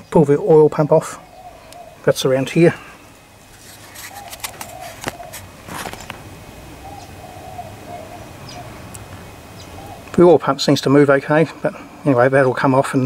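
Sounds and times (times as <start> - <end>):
low wavering bird calls: 0.0 - 10.5.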